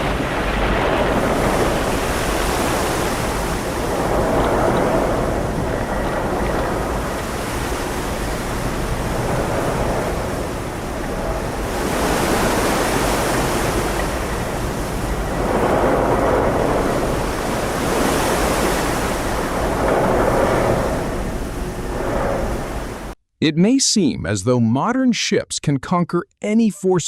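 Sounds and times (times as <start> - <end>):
sea waves rushing: 0.0 - 23.2
wind: 0.0 - 23.2.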